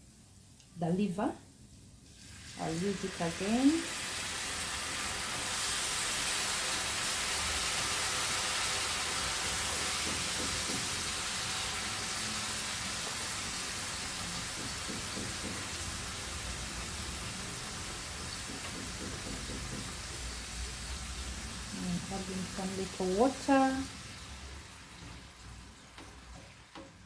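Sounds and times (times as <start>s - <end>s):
soy sauce sizzling in a frying pan: 2.0s - 27.0s.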